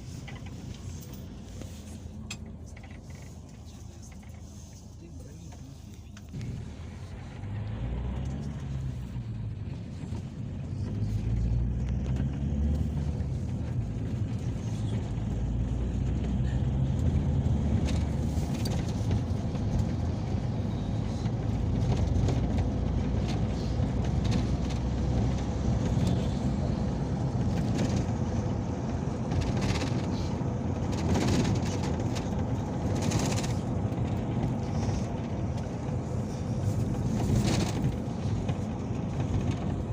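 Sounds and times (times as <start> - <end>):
light rattles and clicks: 0.0 - 7.5, 8.1 - 39.9
minibus engine and road noise: 0.0 - 39.9.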